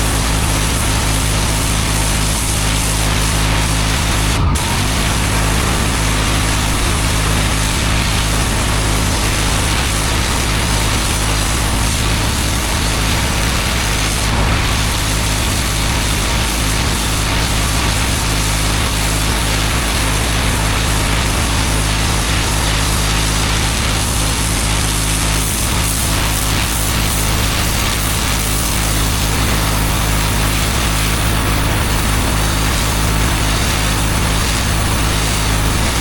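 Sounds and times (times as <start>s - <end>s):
pressure washer engine running: 0.0s - 36.0s
water jet hissing on paving: 0.0s - 36.0s.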